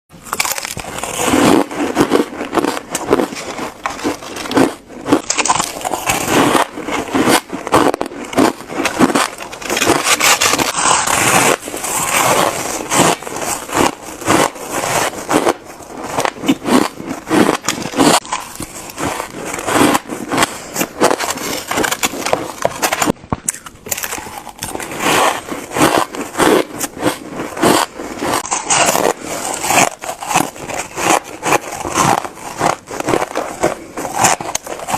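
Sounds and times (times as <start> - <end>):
chewing shaved ice: 0.2 - 34.9.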